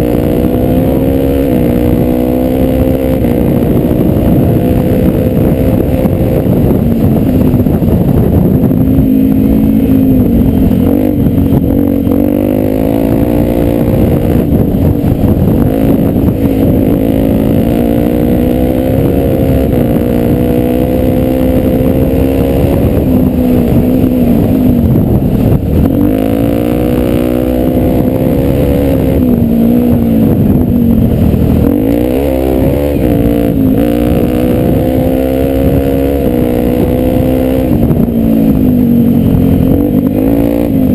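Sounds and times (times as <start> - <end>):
motorcycle engine revving: 0.0 - 40.9
wind and riding noise: 0.0 - 40.9.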